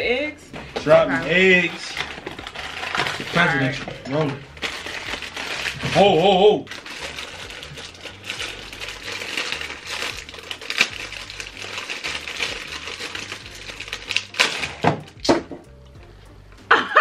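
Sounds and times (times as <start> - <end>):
plastic bag crinkling: 0.8 - 15.2.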